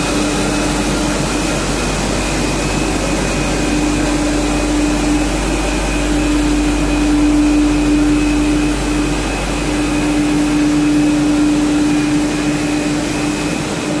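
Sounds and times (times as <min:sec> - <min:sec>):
high machine whine: 0:00.0 - 0:14.0
machine humming: 0:00.0 - 0:14.0.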